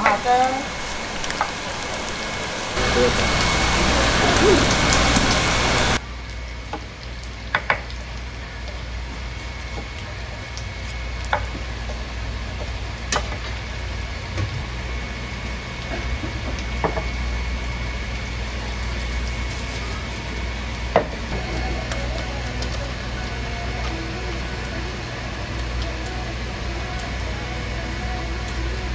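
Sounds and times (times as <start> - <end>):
cooking equipment hum and hiss: 0.0 - 28.9.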